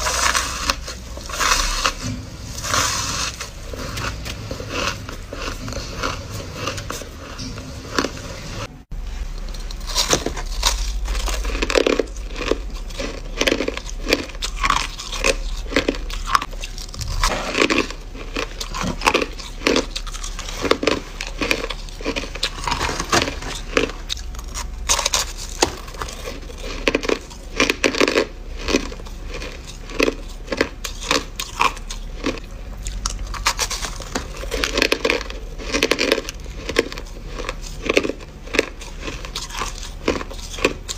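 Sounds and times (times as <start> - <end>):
crushed ice crunching: 0.0 - 8.7, 9.6 - 40.9.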